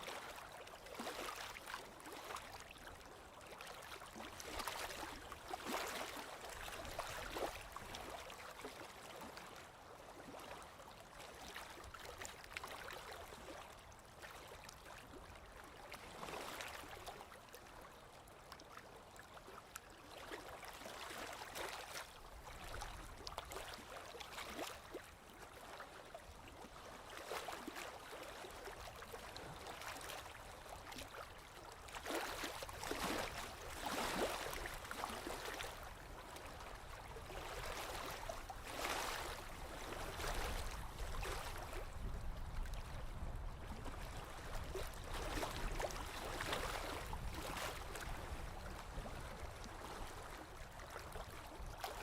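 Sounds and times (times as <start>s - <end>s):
waves lapping against shore: 0.0s - 52.0s.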